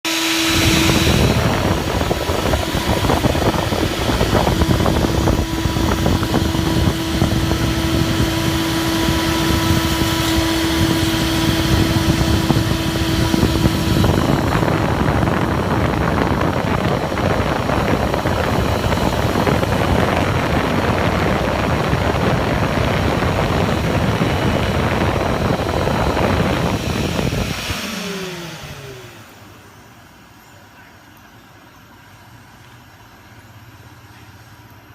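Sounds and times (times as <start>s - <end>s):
milling machine running: 0.0s - 34.9s.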